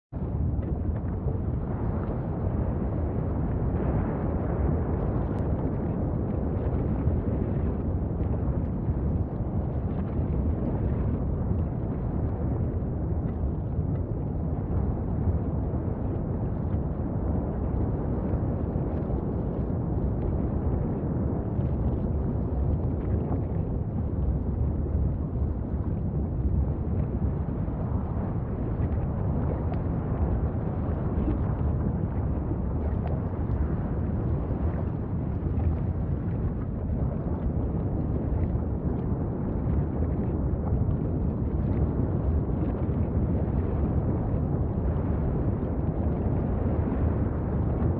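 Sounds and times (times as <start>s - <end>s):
deep rumbling of volcanic eruption: 0.0s - 47.9s.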